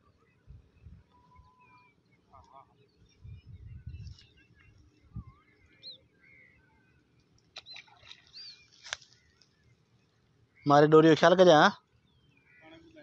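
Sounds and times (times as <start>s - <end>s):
faint bird chirps: 0.0s - 10.9s, 12.0s - 13.0s.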